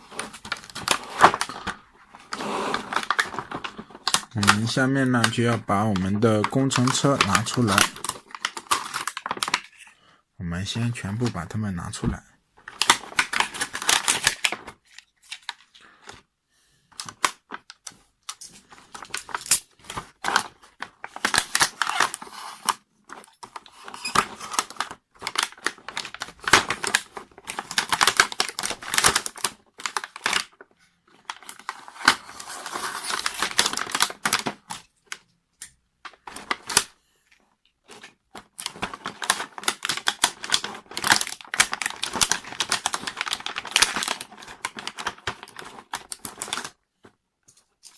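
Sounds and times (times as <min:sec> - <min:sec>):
packaging rustling and crinkling: 0:00.0 - 0:09.9, 0:12.6 - 0:16.3, 0:16.9 - 0:35.2, 0:36.0 - 0:36.9, 0:37.8 - 0:47.9.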